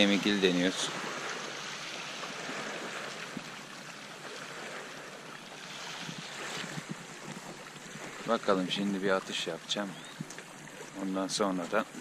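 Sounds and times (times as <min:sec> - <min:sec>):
waves washing over pebbles: 0:00.0 - 0:12.0.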